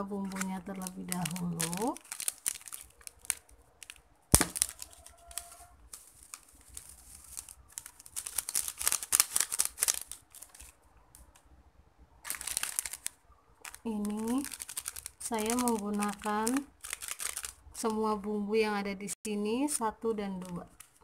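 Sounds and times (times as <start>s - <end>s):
foil sachet crinkling: 0.0s - 10.8s, 12.2s - 18.0s, 19.7s - 21.0s.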